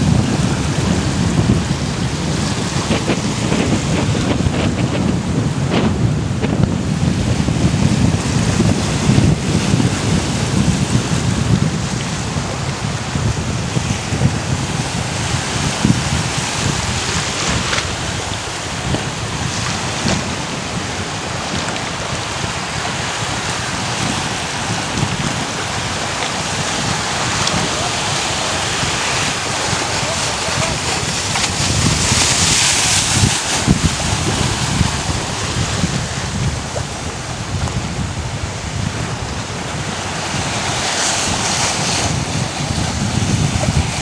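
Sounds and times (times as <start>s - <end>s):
small waves washing: 0.0s - 44.0s
wind buffeting microphone: 0.0s - 44.0s.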